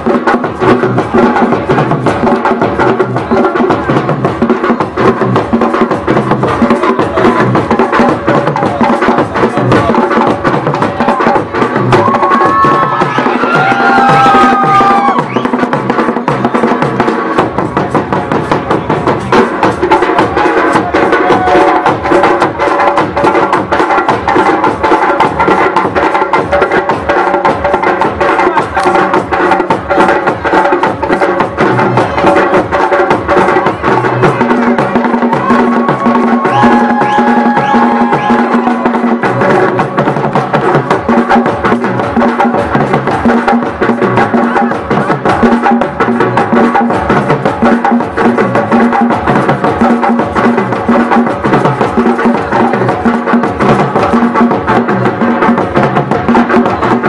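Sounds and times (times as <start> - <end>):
fast hand drumming: 0.0 - 57.0.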